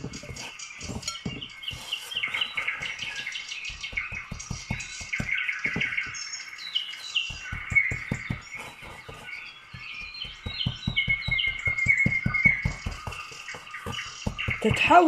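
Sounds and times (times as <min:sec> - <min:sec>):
hands patting bread dough: 0:00.0 - 0:15.0
small birds chirping: 0:00.0 - 0:15.0.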